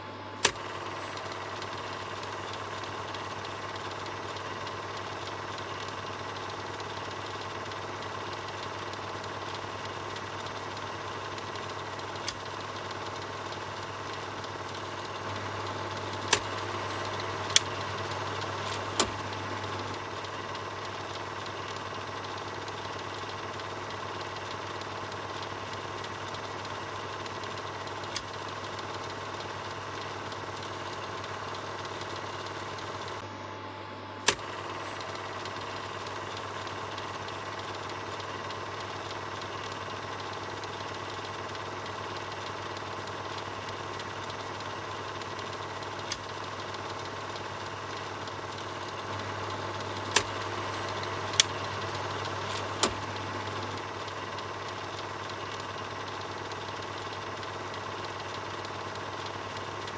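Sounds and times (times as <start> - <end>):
film projector whirring: 0.0 - 59.9
sharp clicks: 0.4 - 33.2, 34.2 - 59.9.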